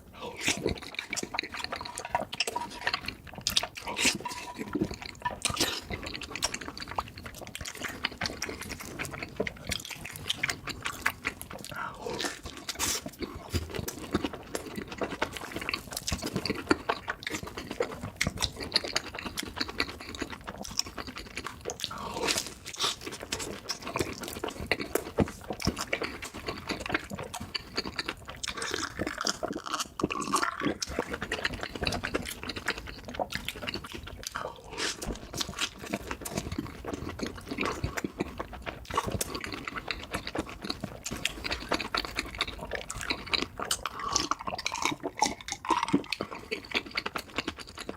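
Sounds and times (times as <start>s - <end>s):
wet chewing and mouth smacks: 0.1s - 47.9s.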